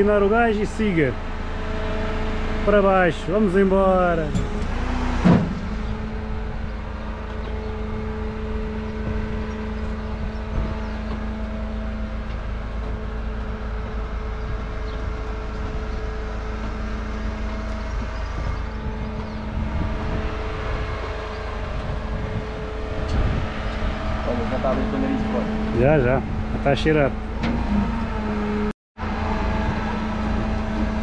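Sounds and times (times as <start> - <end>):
truck engine and hydraulics humming: 0.0 - 31.0.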